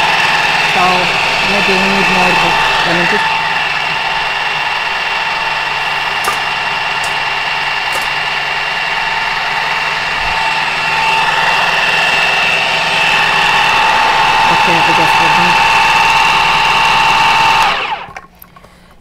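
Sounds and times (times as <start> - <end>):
food processor motor whining: 0.0 - 19.0.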